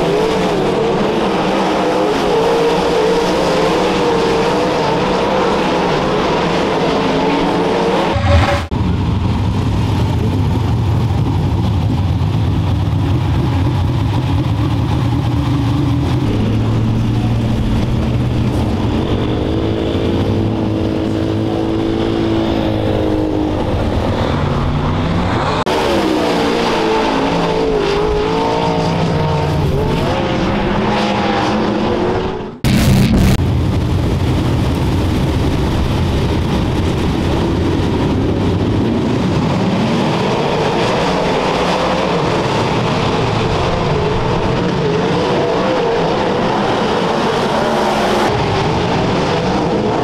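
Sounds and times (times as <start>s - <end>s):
race car engine revving: 0.0s - 9.0s, 12.7s - 33.4s, 34.7s - 50.0s.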